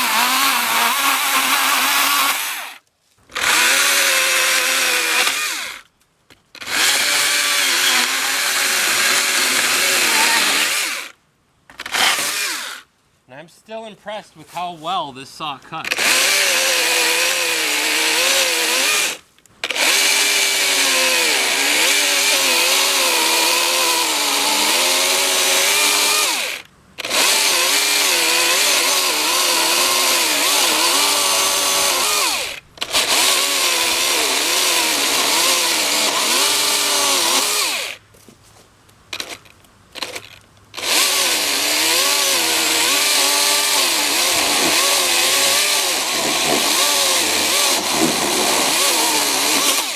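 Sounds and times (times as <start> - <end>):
chainsaw cutting wood: 0.0 - 5.9, 6.6 - 12.9, 15.9 - 38.0, 39.1 - 49.9.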